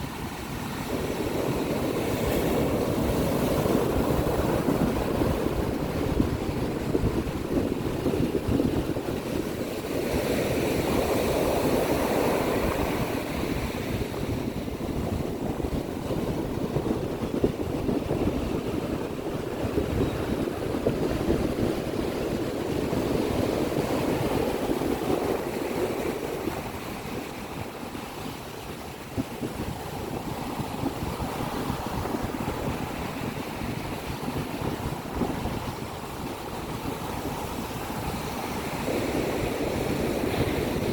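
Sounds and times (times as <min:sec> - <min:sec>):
sea waves washing onto beach: 0:00.0 - 0:40.9.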